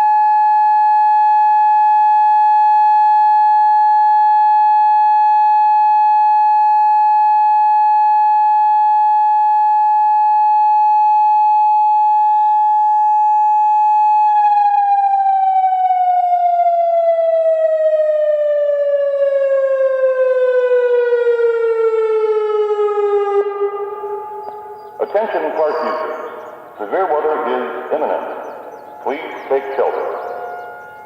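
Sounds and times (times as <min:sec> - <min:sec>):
electronic warning siren: 0:00.0 - 0:31.0.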